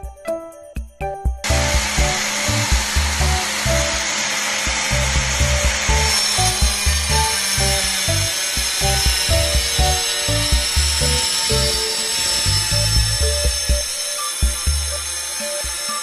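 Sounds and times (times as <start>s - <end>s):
background music with beat: 0.0s - 16.0s
wet tile saw cutting: 1.4s - 16.0s.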